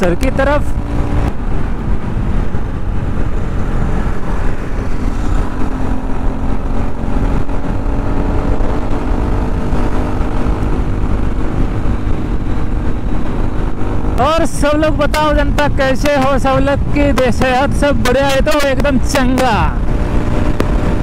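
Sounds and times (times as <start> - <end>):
motorcycle engine cruising: 0.0 - 21.0
wind rumbling on microphone: 0.0 - 21.0.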